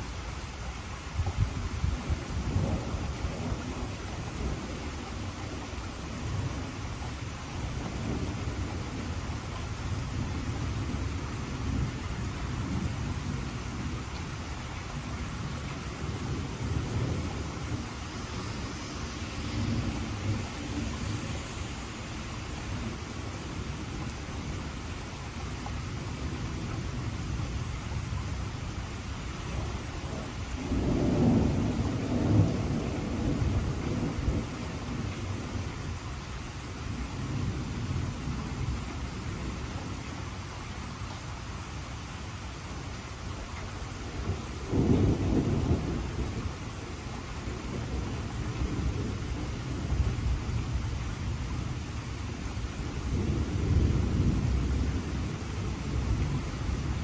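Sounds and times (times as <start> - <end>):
steady rain: 0.0 - 57.0
low roll of thunder: 1.1 - 36.2, 36.8 - 40.3, 43.7 - 57.0.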